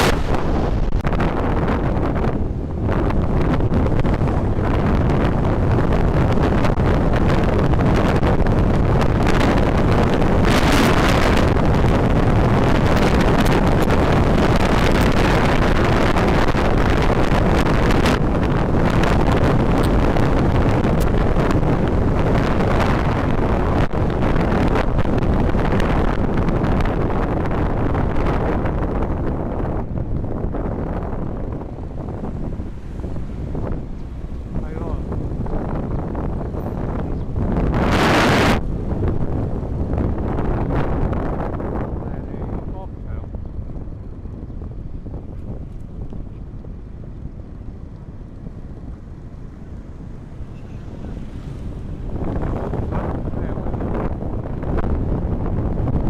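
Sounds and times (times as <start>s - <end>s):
motorcycle noise: 0.0s - 56.0s
wind rushing over microphone: 0.0s - 56.0s.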